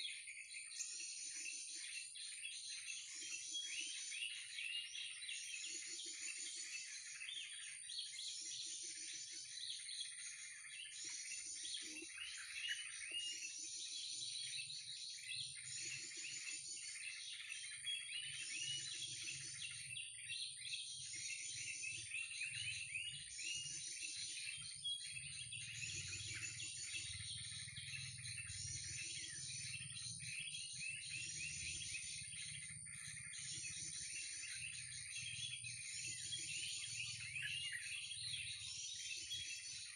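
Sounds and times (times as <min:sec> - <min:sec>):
small birds chattering: 0:00.0 - 0:39.9.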